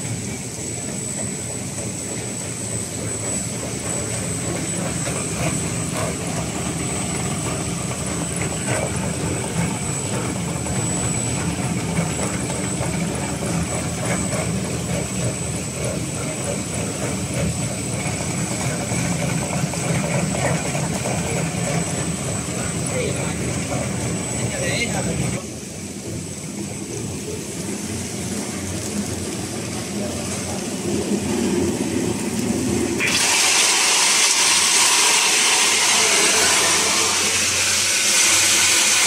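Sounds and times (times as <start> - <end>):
high machine whine: 0.0 - 39.0
machinery drone: 0.0 - 39.0.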